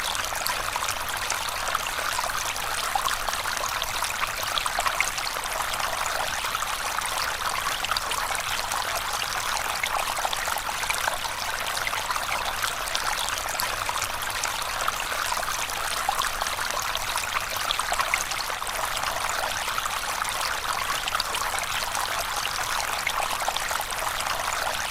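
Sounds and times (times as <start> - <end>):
stream of water flowing: 0.0 - 24.9.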